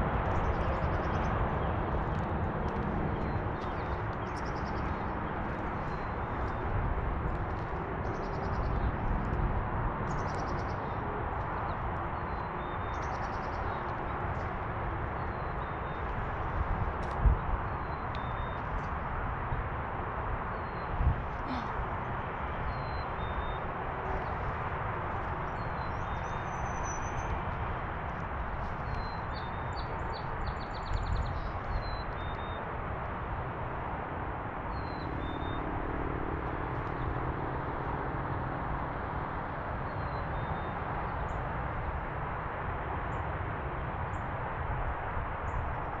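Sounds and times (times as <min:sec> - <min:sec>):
steady rushing background noise: 0:00.0 - 0:46.0.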